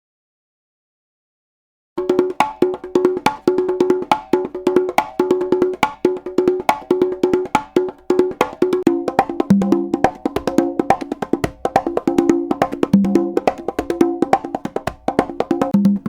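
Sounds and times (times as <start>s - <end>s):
conga drums rhythm: 2.0s - 16.0s.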